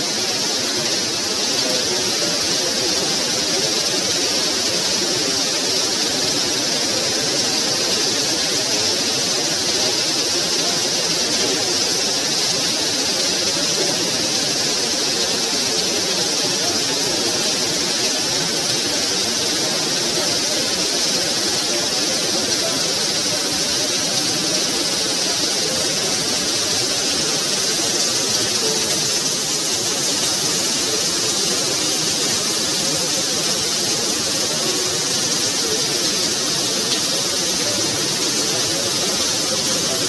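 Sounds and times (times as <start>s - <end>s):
heavy rain on concrete: 0.0s - 40.0s.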